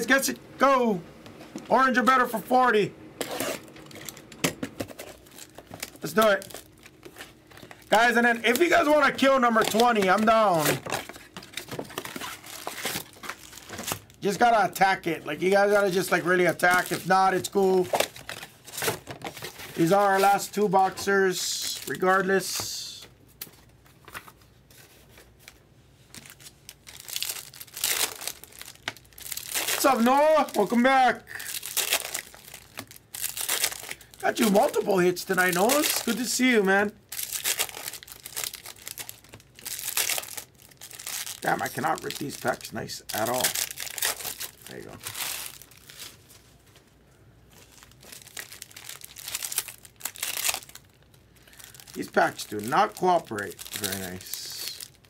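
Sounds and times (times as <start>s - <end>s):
foil wrapper crinkling and tearing: 3.2s - 22.6s, 25.4s - 46.4s, 47.5s - 55.0s.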